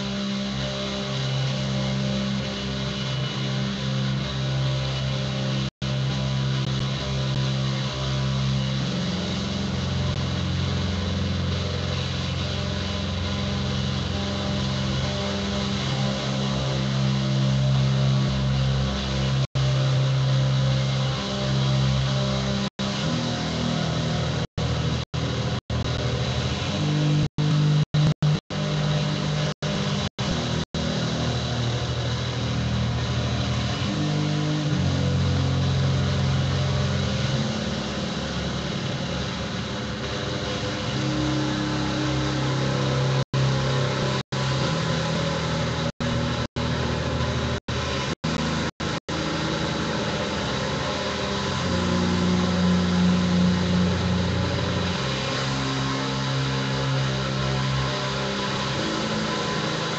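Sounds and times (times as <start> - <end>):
drone guitar low notes: 0.0 - 59.9.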